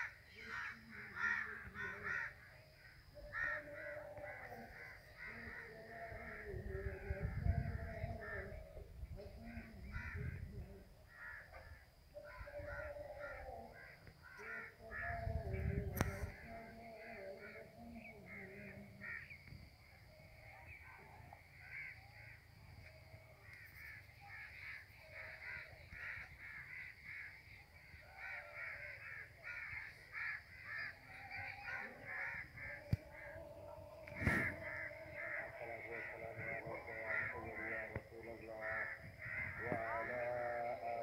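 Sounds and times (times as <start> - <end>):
crows cawing: 0.0 - 8.8, 9.4 - 41.0.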